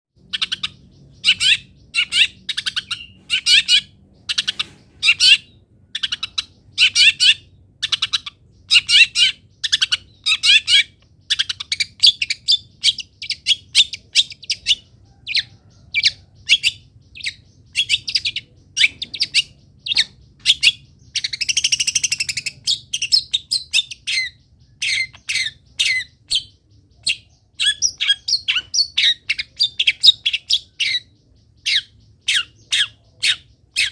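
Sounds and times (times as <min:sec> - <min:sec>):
bird chattering song: 0:00.2 - 0:33.9.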